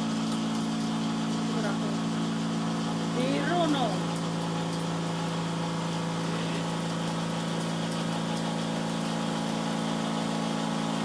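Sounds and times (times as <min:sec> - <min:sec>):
cotton candy machine motor hum: 0:00.0 - 0:11.0.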